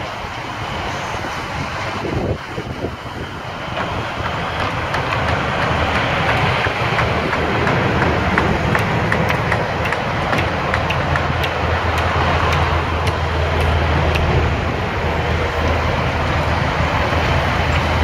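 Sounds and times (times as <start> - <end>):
low engine hum: 0.0 - 18.0
road roar: 0.0 - 18.0.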